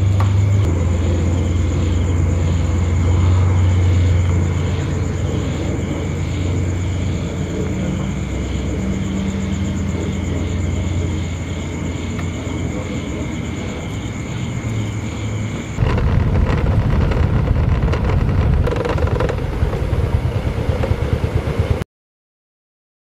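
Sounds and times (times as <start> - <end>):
vehicle engine humming: 0.0 - 21.8.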